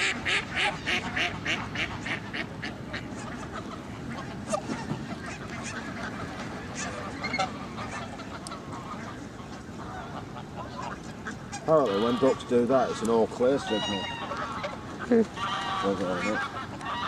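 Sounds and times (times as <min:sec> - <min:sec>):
geese and ducks calling: 0:00.0 - 0:17.0.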